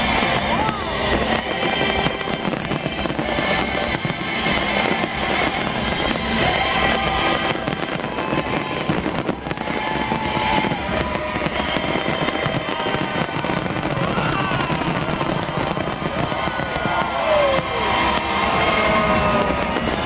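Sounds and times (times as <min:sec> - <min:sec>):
fireworks crackling and popping: 0:00.0 - 0:20.0
whistling fireworks: 0:00.0 - 0:20.0.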